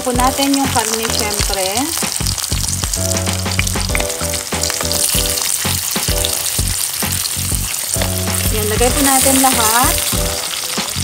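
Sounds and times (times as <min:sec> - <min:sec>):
background music with a beat: 0:00.0 - 0:11.0
meat sizzling in a pan: 0:00.0 - 0:11.0.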